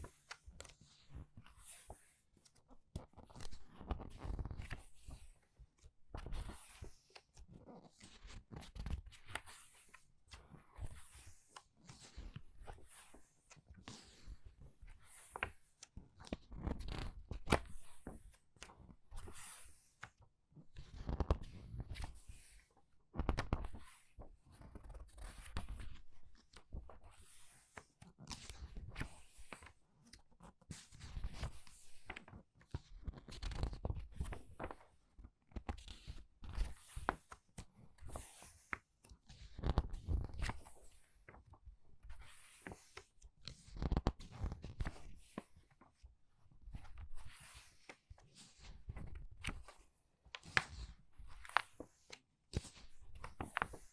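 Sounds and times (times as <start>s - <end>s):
book pages flipping: 1.6s - 5.3s, 8.0s - 14.4s, 15.0s - 20.1s, 20.9s - 22.6s, 23.2s - 29.8s, 31.0s - 34.8s, 35.5s - 38.8s, 39.5s - 41.5s, 42.1s - 46.0s, 46.7s - 53.9s.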